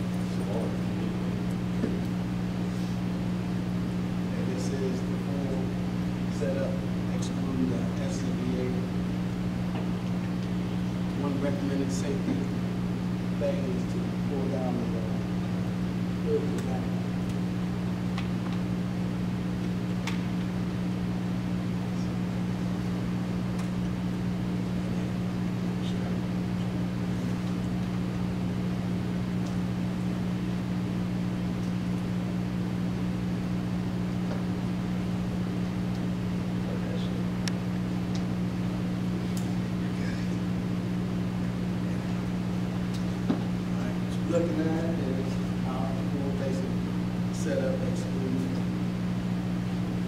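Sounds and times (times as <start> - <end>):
low machine hum: 0.0 - 50.0.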